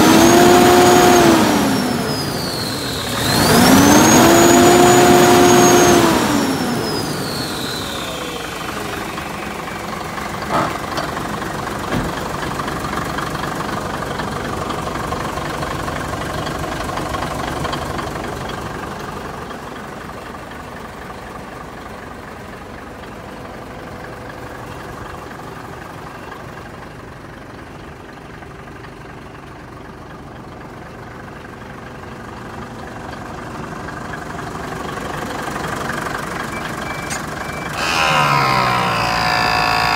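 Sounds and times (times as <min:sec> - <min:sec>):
diesel truck engine idling: 0:06.6 - 0:39.9.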